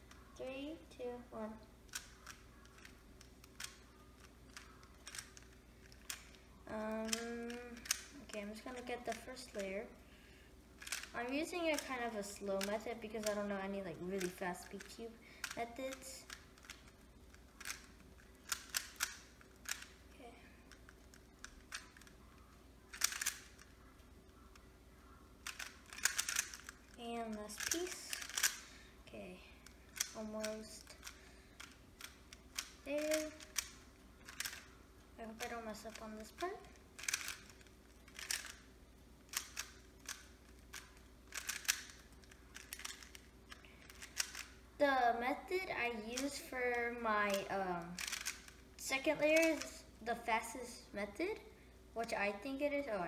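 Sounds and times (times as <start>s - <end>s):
speed cube clicking: 1.8s - 9.9s, 10.8s - 28.9s, 29.6s - 44.6s, 45.4s - 50.2s.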